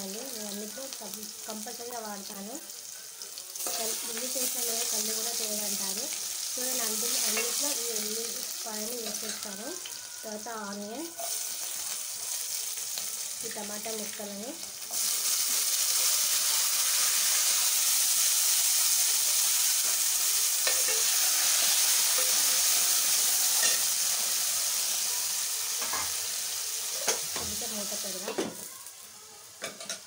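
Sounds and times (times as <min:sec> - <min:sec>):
tomatoes sizzling in hot oil: 0:00.0 - 0:30.0.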